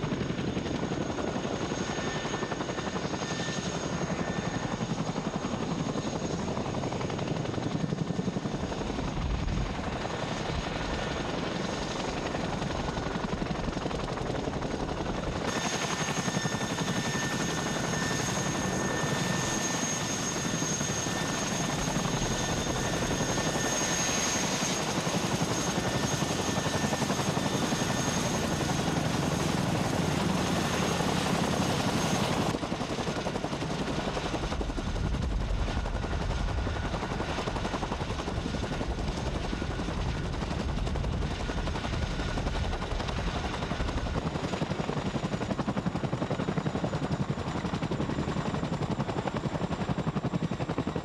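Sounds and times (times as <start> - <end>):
helicopter rotor beat: 0.0 - 51.0.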